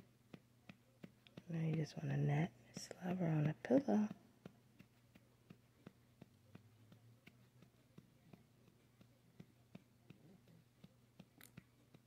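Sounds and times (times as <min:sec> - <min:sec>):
faint low room hum: 0:00.0 - 0:12.0
soft scattered clicks: 0:00.0 - 0:12.0.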